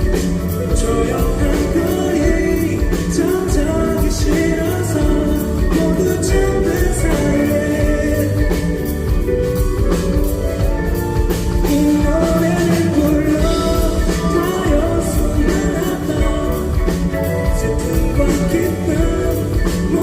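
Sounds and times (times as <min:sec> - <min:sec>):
live pop-rock band: 0:00.0 - 0:20.0
person singing: 0:00.0 - 0:20.0.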